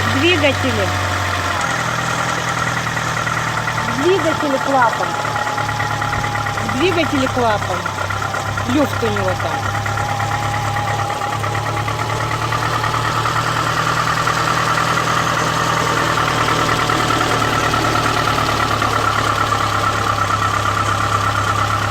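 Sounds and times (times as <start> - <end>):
car engine idling with ticking: 0.0 - 21.9.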